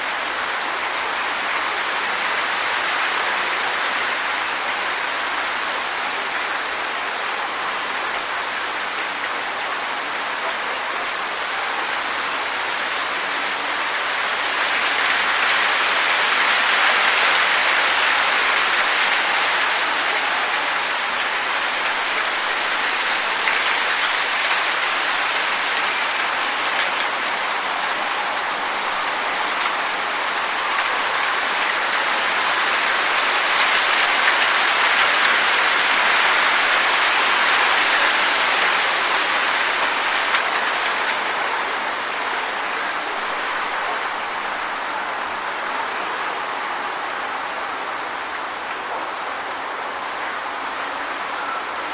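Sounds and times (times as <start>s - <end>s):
wind blowing through trees: 0.0s - 51.9s.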